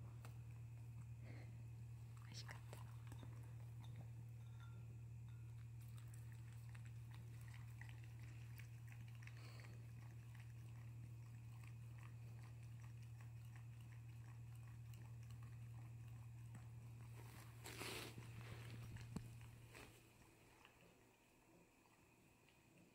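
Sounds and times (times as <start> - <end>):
steady low hum: 0.0 - 22.9
dog chewing from a bowl: 2.5 - 21.1.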